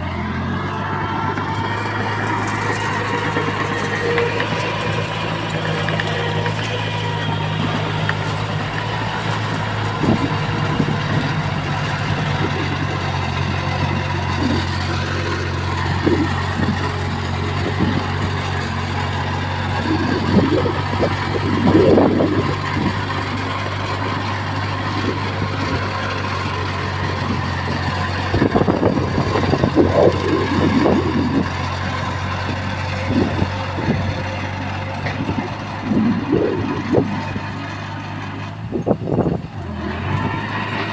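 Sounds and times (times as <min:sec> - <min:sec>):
heavy machinery diesel engine: 0:00.0 - 0:40.9.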